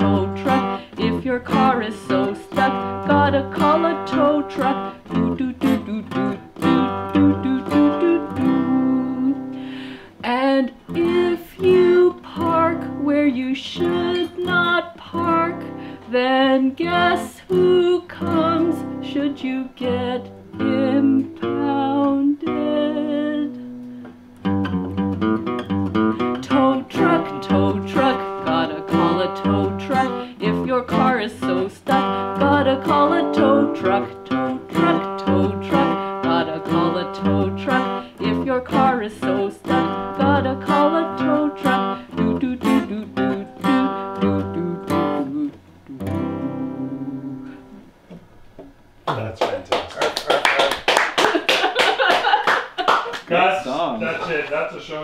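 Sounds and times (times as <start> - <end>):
woman singing: 0.0 - 23.7, 26.2 - 47.7
acoustic guitar strumming: 0.0 - 48.0.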